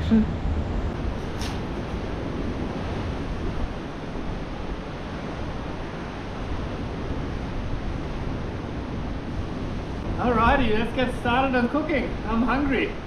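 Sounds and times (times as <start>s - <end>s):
ocean surf echoing in a cave: 0.0s - 13.0s.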